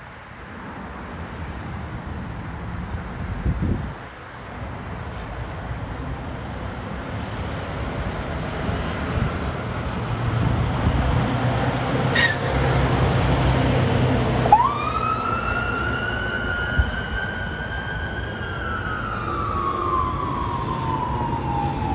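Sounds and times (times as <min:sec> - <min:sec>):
diesel engine drone: 0:00.0 - 0:21.9.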